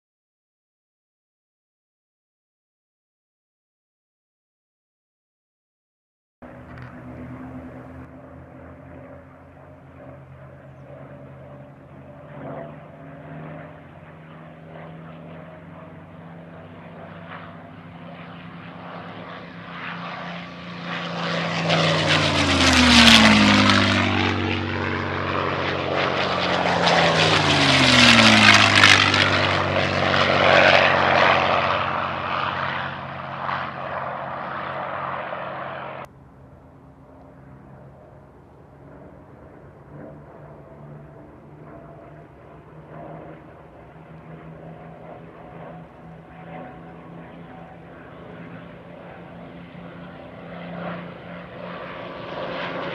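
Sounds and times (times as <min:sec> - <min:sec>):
propeller plane engines flying past: 0:06.4 - 0:52.9.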